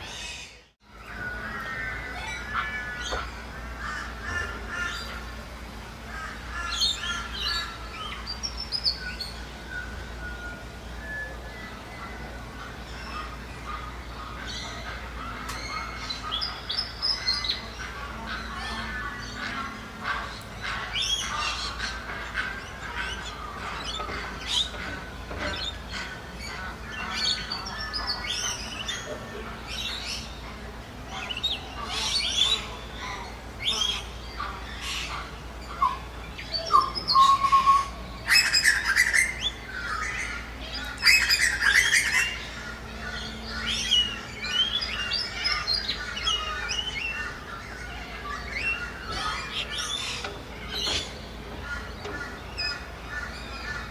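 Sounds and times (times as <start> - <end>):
birds chirping and squawking: 0.0 - 53.9.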